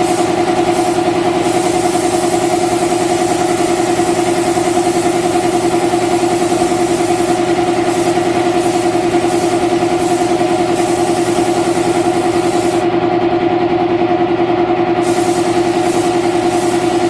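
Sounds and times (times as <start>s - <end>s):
spray gun hissing: 0.0s - 12.8s, 15.0s - 17.0s
air compressor humming: 0.0s - 17.0s.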